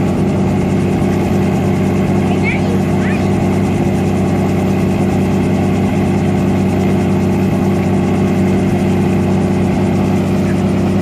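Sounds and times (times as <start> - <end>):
helicopter turbine and rotor: 0.0 - 11.0.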